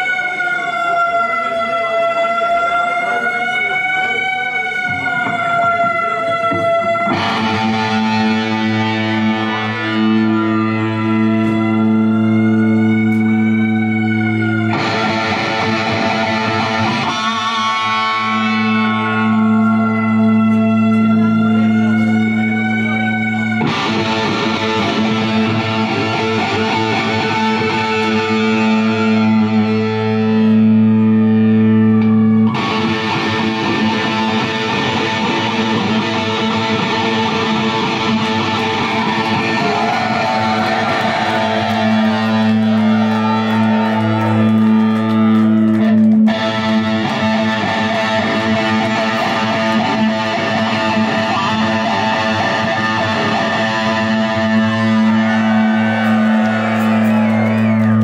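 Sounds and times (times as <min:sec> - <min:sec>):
wavering higher guitar line: 0:02.8 - 0:58.0
distorted electric guitar drone: 0:03.3 - 0:58.0
heavy metal band playing: 0:04.8 - 0:58.0.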